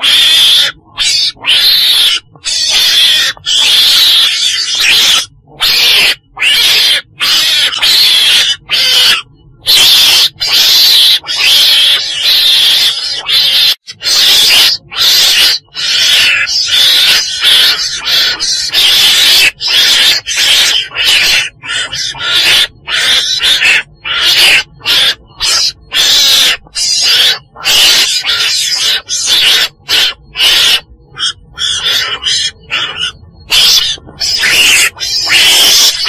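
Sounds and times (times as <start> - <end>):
weasel chattering cries: 0.0 - 36.0.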